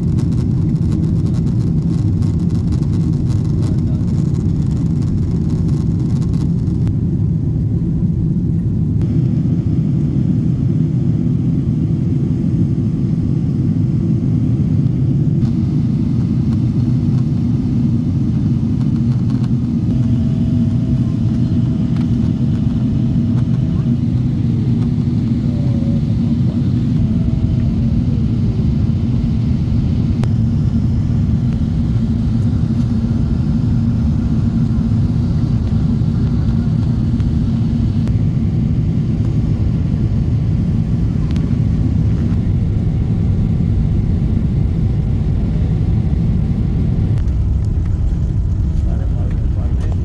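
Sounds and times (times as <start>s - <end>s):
airliner engine drone in cabin: 0.0s - 50.0s.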